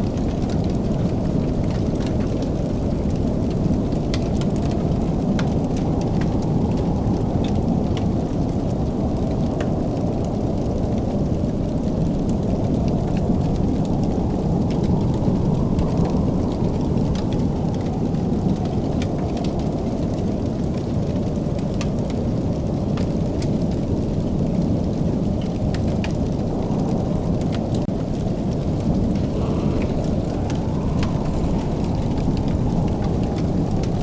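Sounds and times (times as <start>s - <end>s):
fire popping and snapping: 0.1s - 34.0s
wood fire crackling: 0.1s - 34.0s.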